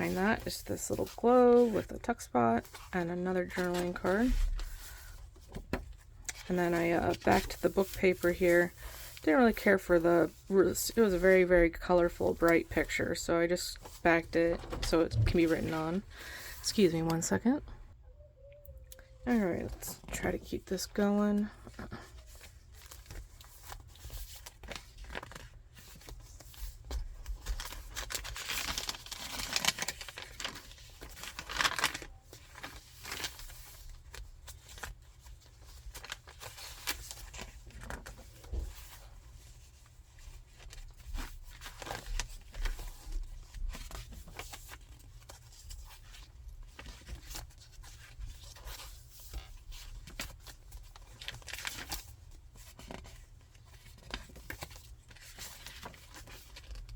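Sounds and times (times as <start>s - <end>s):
paper pages rustling and crinkling: 0.0s - 17.4s, 19.3s - 56.9s.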